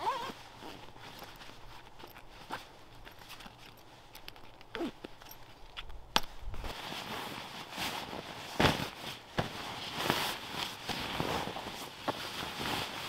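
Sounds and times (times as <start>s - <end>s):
fabric rustling and swishing: 0.0s - 4.1s, 6.4s - 13.0s.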